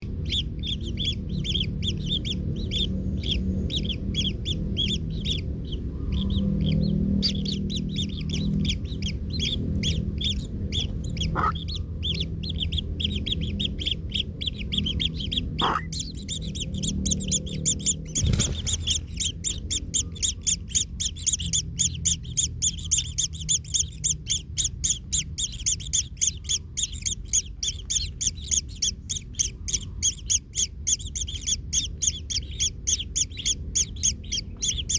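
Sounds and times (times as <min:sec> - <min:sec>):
low rumble: 0:00.0 - 0:34.9
nestlings high-pitched calling: 0:00.0 - 0:34.9.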